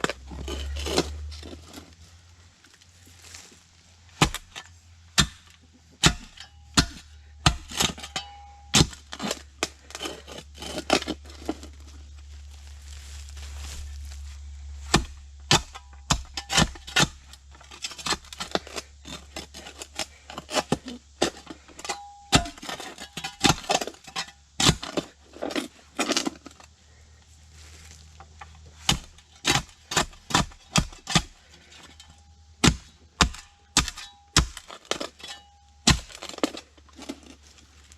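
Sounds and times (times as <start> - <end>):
spade striking rocky soil: 0.0 - 2.0, 4.1 - 12.1, 14.8 - 26.7, 27.8 - 37.9.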